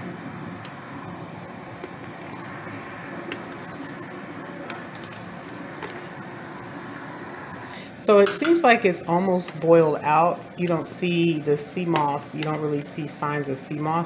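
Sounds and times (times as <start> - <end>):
pot boiling and bubbling: 0.0 - 14.0.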